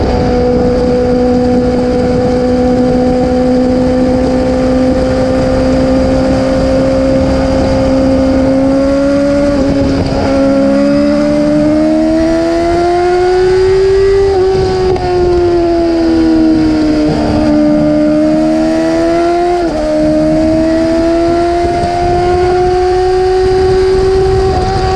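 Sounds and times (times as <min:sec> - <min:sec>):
motorcycle engine revving high: 0:00.0 - 0:24.9.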